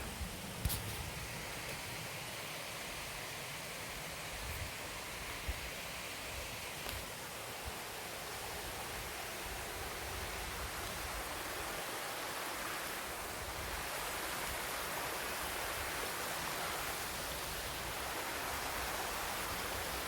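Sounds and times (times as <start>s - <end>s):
flowing mountain water: 0.0s - 20.0s.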